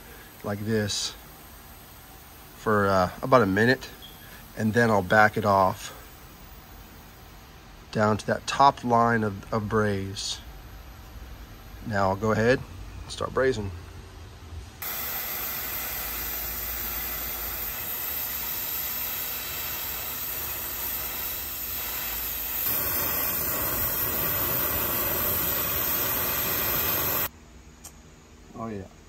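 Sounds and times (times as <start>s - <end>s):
torch flame hissing: 0.0s - 12.6s, 14.8s - 27.3s.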